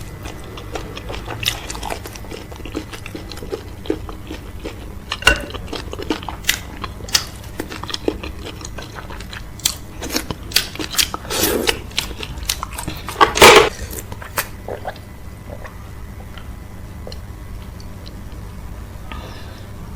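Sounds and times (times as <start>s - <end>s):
wet chewing: 0.0s - 17.2s.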